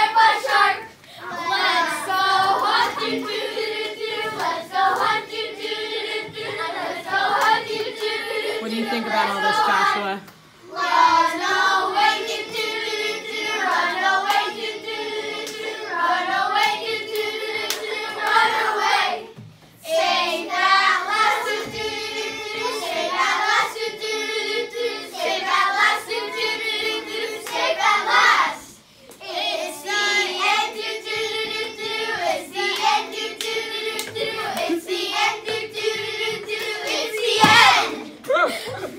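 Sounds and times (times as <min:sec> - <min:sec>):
children singing: 0:00.0 - 0:10.0, 0:10.7 - 0:19.3, 0:19.9 - 0:28.7, 0:29.3 - 0:38.2.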